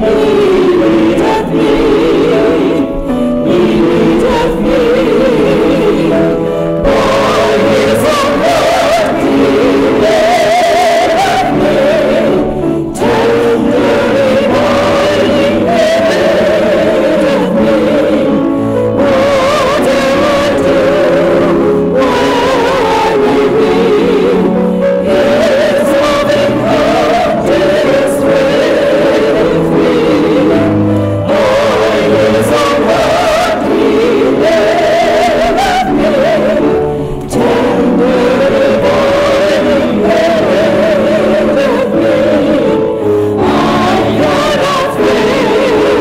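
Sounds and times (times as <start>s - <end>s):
church choir singing: 0.0s - 46.0s
instrumental accompaniment: 0.0s - 46.0s.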